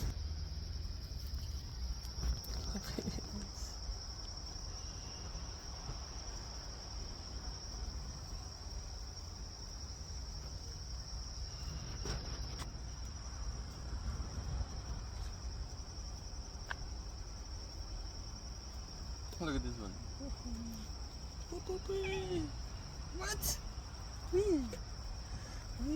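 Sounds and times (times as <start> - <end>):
insects trilling: 0.0 - 25.9
low background rumble: 0.0 - 25.9.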